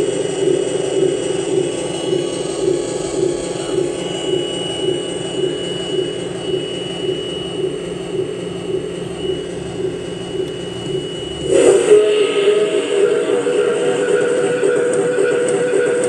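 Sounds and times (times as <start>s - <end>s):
bright electronic tone: 0.0s - 16.0s
pulsing low electronic hum: 0.0s - 16.0s
thin high whine: 0.0s - 16.0s.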